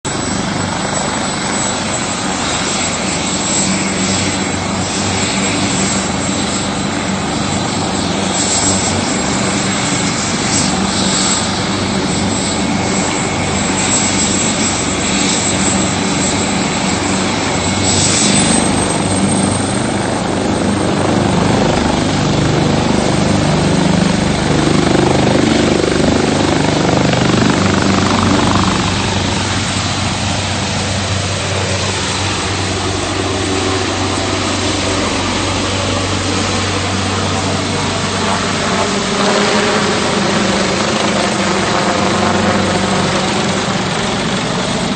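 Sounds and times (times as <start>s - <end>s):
helicopter rotor beat: 0.0s - 44.9s
helicopter turbine engines whining: 0.0s - 44.9s.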